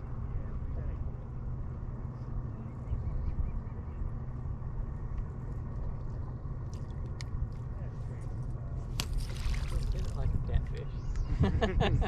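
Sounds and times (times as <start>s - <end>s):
boat motor rumble and hum: 0.0s - 12.0s.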